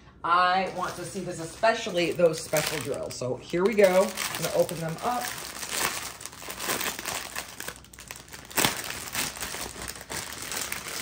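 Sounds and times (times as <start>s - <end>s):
plastic wrap crinkling: 0.6s - 11.0s.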